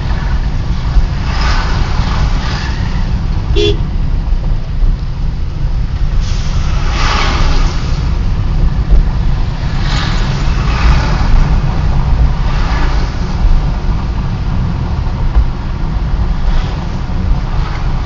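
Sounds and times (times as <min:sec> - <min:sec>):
passing traffic whooshes: 0:00.0 - 0:18.0
road and engine rumble: 0:00.0 - 0:18.0.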